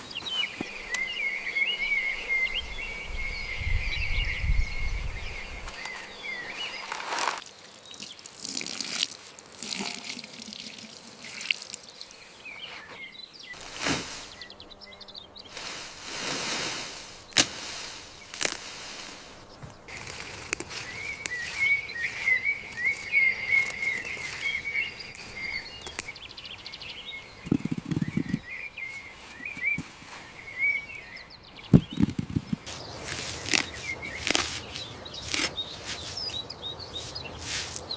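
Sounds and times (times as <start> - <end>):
birds chirping: 0.0 - 8.4, 9.8 - 37.9.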